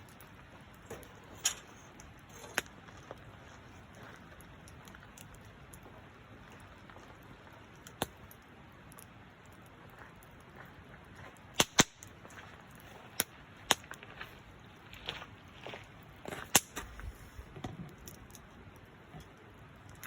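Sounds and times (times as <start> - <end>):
campfire wood popping: 0.0 - 20.0.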